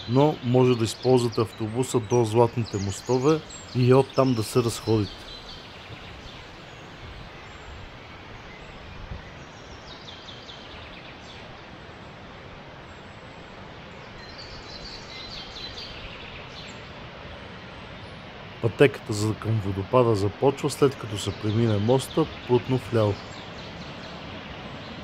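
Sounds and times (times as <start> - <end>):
mountain river rushing: 0.0 - 25.0.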